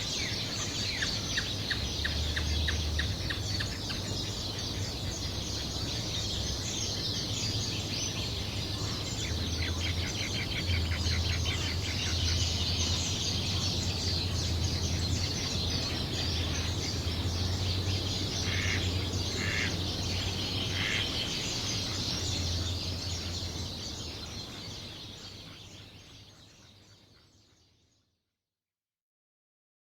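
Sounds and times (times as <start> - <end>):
birds chirping and singing: 0.0 - 27.2.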